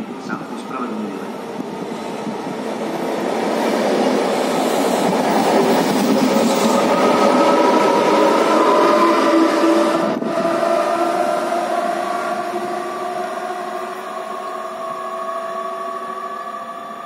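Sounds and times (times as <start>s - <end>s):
train rumble: 0.0s - 17.0s
train whine of held tones: 1.2s - 17.0s.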